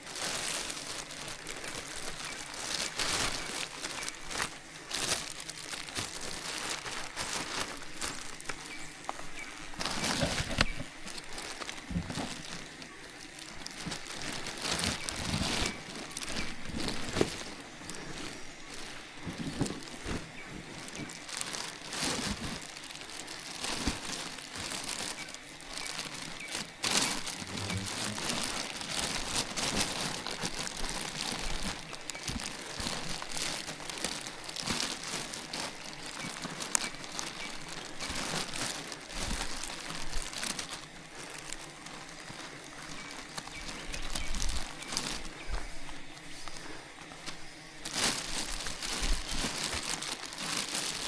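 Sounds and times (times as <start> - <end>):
crinkling and crackling: 0.0 - 51.0.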